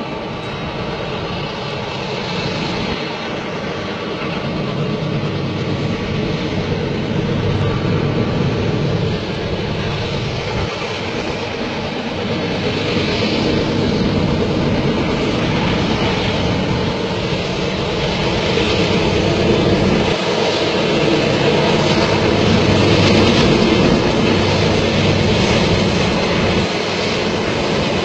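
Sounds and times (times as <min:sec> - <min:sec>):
freight train rumbling on rails: 0:00.0 - 0:28.0.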